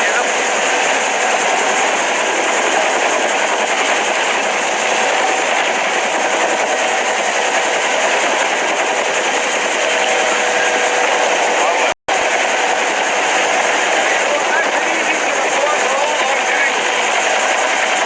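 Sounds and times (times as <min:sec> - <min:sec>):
helicopter running: 0:00.0 - 0:18.0.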